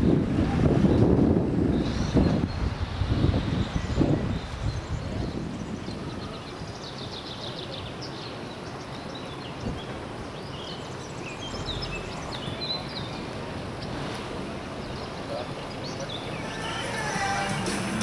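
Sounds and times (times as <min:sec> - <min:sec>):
steady outdoor hiss: 0:00.0 - 0:18.0
small birds chirping: 0:01.7 - 0:14.0, 0:14.6 - 0:17.3.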